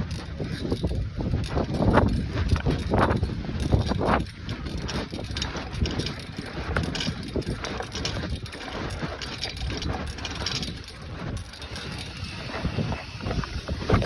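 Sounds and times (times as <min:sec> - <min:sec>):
bicycle rattling and knocking: 0:00.0 - 0:14.0
wind on microphone: 0:00.0 - 0:14.0.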